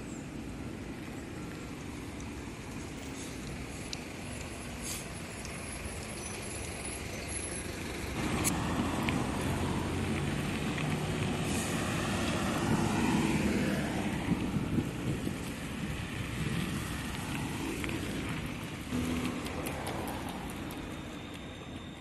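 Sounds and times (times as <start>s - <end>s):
bus engine: 0.0s - 22.0s
road traffic passing: 0.0s - 22.0s.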